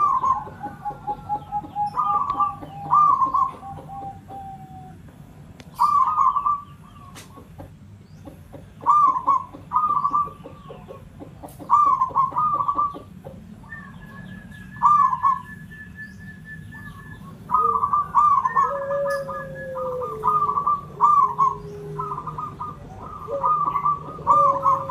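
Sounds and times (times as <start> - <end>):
dove cooing: 0.0 - 24.9.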